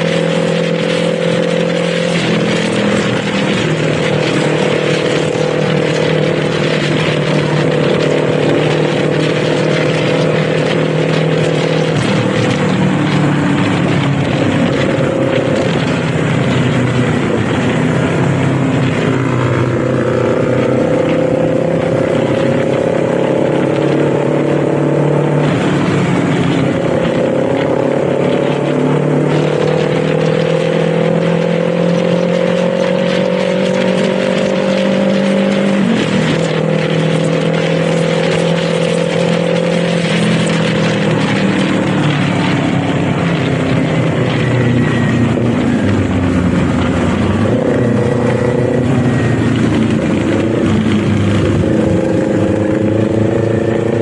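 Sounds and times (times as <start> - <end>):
motorcycle engine pulling through gears: 0.0 - 54.0
wind rush: 0.0 - 54.0.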